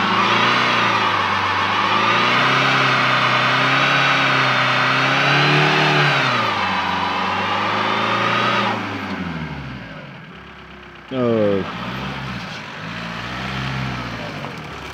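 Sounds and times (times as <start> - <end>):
diesel engine under power: 0.0 - 14.9.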